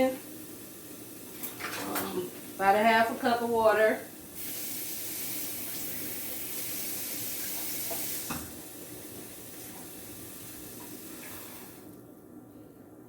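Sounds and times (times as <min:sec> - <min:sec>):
water hissing in a hot pan: 0:00.0 - 0:01.6, 0:02.2 - 0:11.9.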